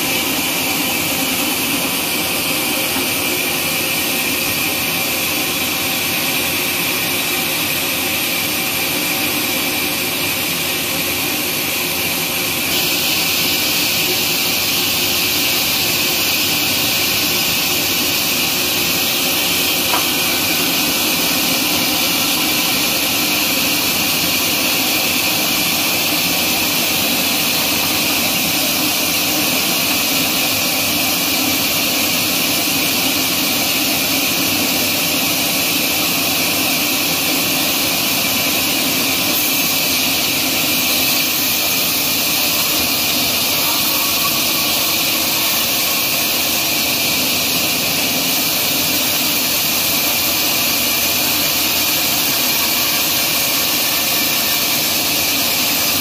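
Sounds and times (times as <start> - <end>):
band saw blade and motor whine: 0.0 - 56.0.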